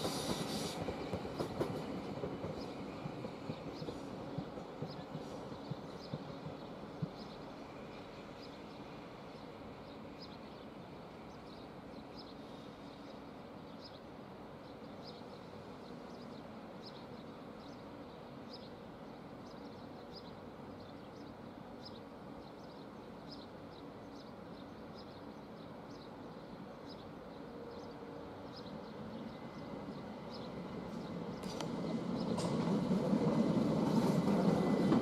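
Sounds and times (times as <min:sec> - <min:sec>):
distant train rumble: 0:00.0 - 0:35.0.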